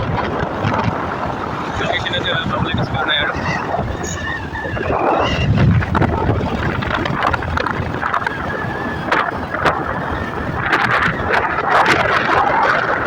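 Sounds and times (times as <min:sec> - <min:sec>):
vehicle road noise: 0:00.0 - 0:13.0
wind buffeting microphone: 0:00.0 - 0:13.0.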